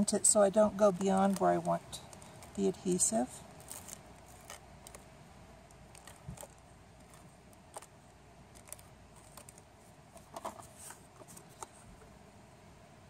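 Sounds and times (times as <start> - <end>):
soft clicks and paper rustles: 0.8 - 12.1.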